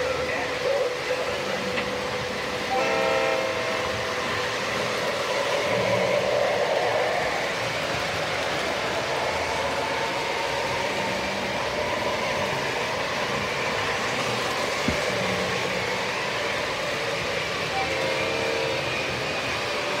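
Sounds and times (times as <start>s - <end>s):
model train wheels rumbling: 0.0s - 20.0s.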